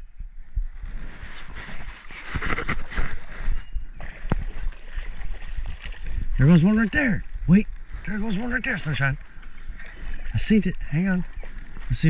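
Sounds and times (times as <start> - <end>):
creek water sloshing and splashing: 0.7 - 12.0.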